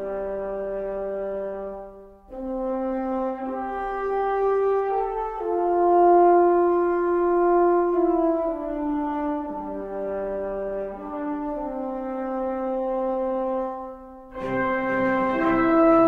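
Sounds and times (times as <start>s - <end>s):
slow horn-like music: 0.0s - 16.0s.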